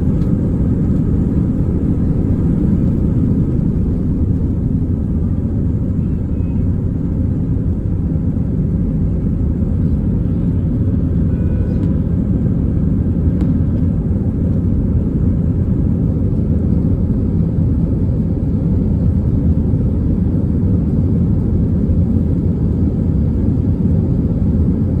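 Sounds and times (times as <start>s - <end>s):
jet engines rumbling at takeoff: 0.0s - 25.0s.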